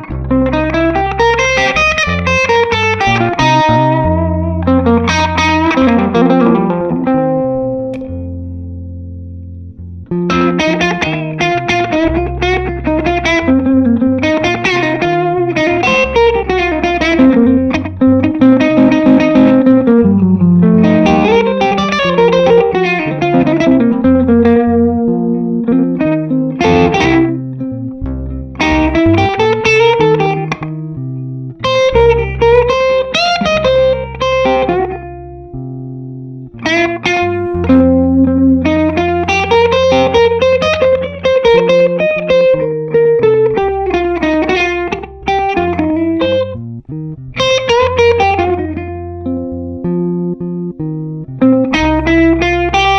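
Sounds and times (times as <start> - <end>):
low bass notes: 0.0 - 52.9
overdriven electric guitar lead: 0.0 - 52.9.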